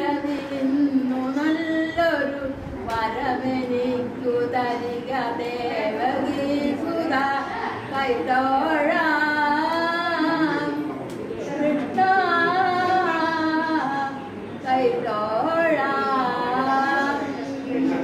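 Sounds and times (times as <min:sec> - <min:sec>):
woman singing unaccompanied: 0:00.0 - 0:17.5.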